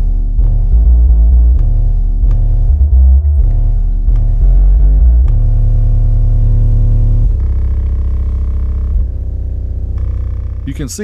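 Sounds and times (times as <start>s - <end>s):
bass-heavy music from subwoofer: 0.0s - 11.0s.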